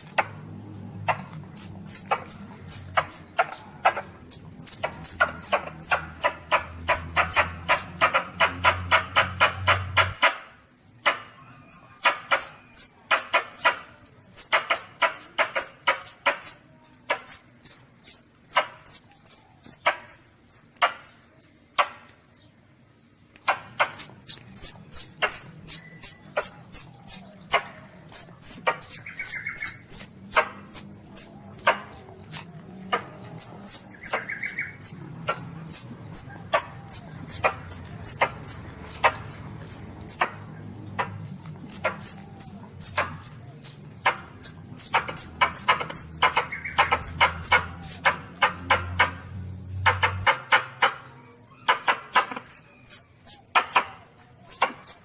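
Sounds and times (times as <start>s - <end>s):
civet kitten squeaking: 1.1s - 8.2s, 11.4s - 20.7s, 23.8s - 48.5s, 51.5s - 55.0s.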